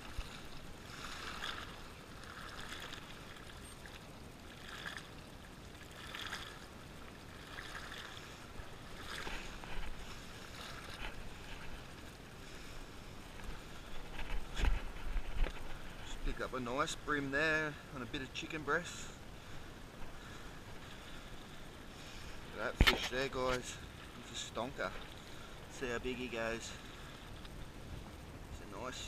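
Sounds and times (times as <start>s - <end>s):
waves sloshing against rocks: 0.0s - 29.0s.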